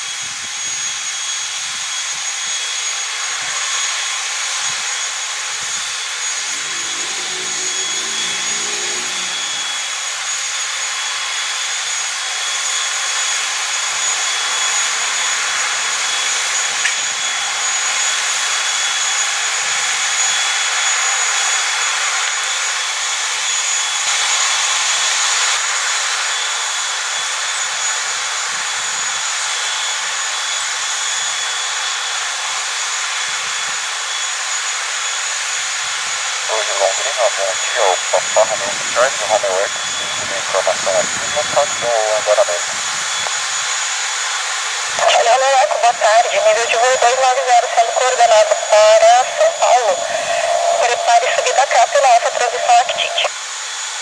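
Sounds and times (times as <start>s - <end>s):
turbine engine rushing: 0.0s - 27.0s, 35.7s - 53.8s
high-pitched two-tone whine: 0.0s - 54.0s.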